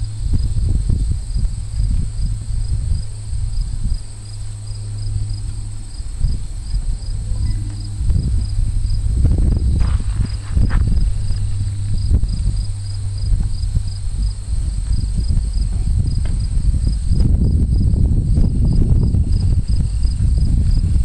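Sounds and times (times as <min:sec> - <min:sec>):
crickets chirping: 0:00.0 - 0:21.0
low rumble: 0:00.0 - 0:21.0.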